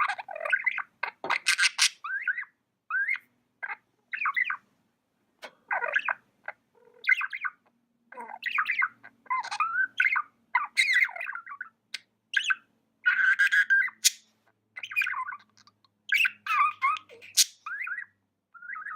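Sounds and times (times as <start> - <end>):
budgie chirping and chattering: 0.0 - 4.6, 5.4 - 18.9.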